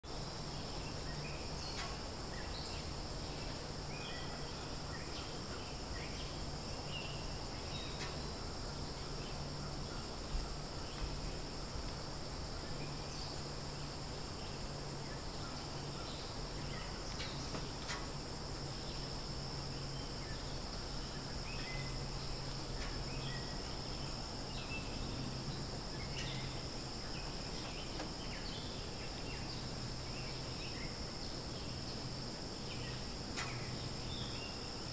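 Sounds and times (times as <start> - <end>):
insects trilling: 0.1 - 34.9
low steady hum: 0.1 - 34.9.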